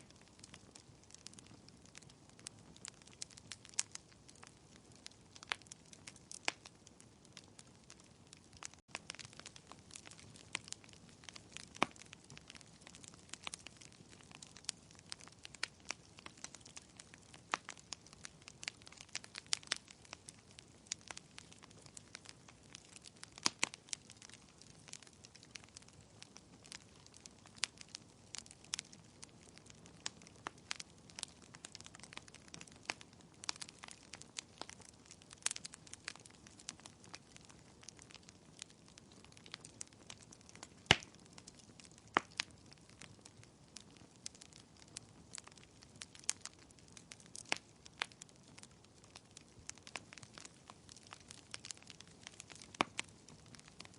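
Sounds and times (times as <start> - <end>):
fireplace fire crackling: 0.0 - 53.9.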